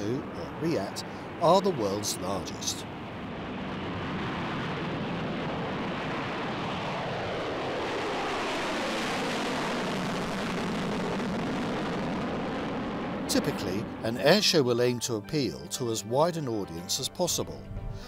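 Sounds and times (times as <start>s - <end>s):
jet bomber taking off overhead: 0.0s - 15.0s.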